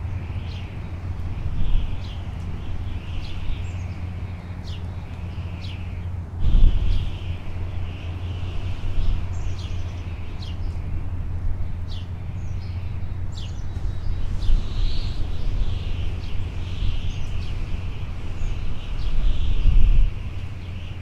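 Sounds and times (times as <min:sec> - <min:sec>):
birds chirping: 0:00.0 - 0:21.0
steady low rumble: 0:00.0 - 0:21.0.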